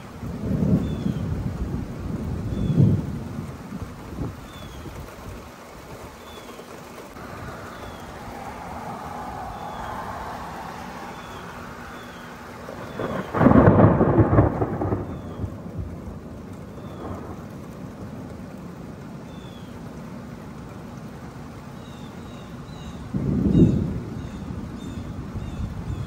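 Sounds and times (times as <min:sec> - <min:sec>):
thunder rumbling: 0:00.0 - 0:06.2, 0:07.0 - 0:20.3, 0:23.0 - 0:26.0
rain hiss: 0:00.0 - 0:26.0.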